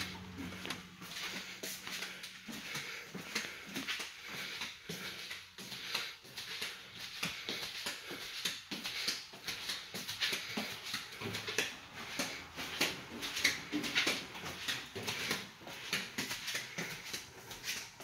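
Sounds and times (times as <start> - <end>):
footsteps and rustling: 0.0 - 18.0.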